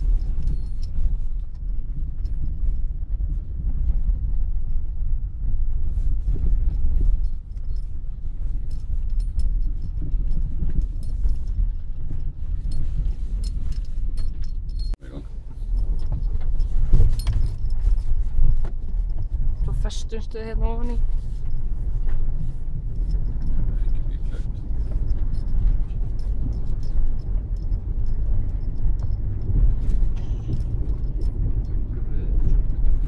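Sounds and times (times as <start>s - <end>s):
engine and tyres rumbling: 0.0s - 33.0s
clicks and rattles: 6.2s - 33.0s.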